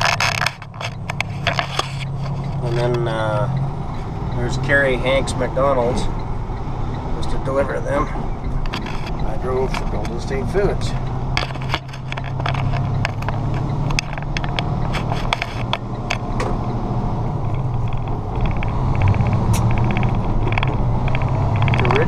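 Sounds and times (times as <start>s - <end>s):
cab rattles and clicks: 0.0s - 22.0s
truck diesel engine running: 0.0s - 22.0s.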